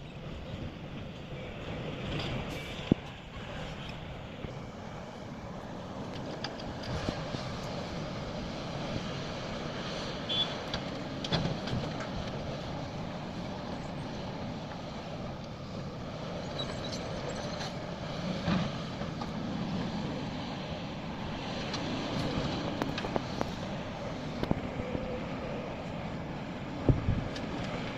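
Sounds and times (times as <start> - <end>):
excavator diesel engine running: 0.1 - 27.9.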